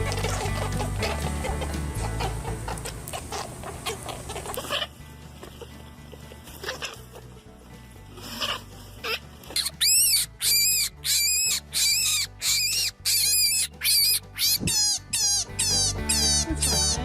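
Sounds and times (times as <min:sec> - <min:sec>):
animal squealing: 0:00.0 - 0:05.8, 0:06.6 - 0:07.4, 0:08.2 - 0:17.0
soft background music: 0:00.0 - 0:17.0.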